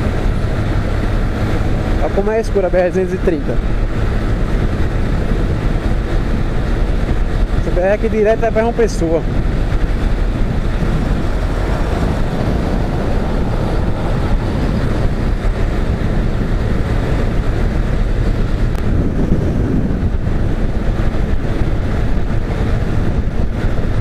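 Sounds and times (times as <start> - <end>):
motorcycle engine: 0.0 - 24.0
road noise: 0.0 - 24.0
wind rushing over microphone: 0.0 - 24.0.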